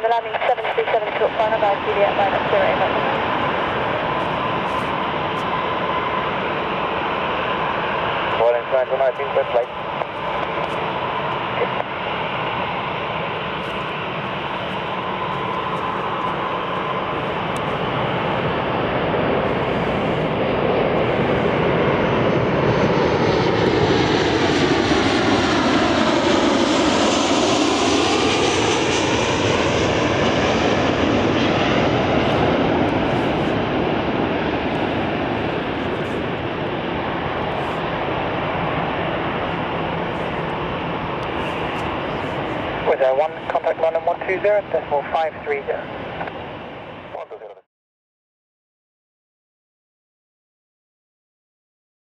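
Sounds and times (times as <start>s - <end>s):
jet passing low: 0.0s - 47.4s.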